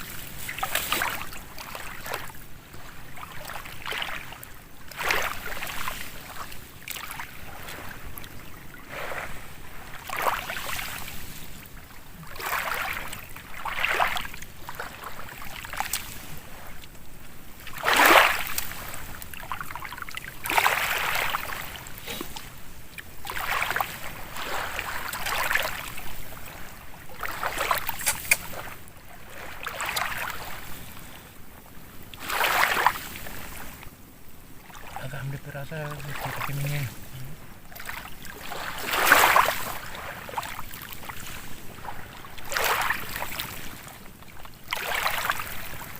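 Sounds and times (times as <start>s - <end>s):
water sloshing and splashing: 0.0s - 45.9s.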